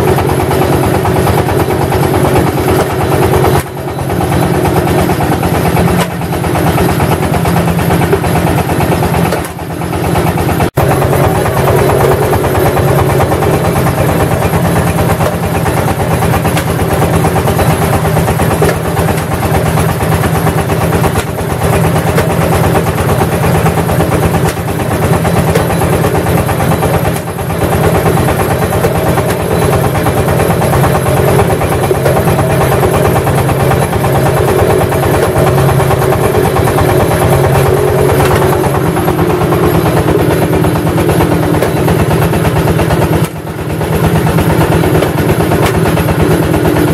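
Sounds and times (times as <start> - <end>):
brick press machine running: 0.0 - 46.9.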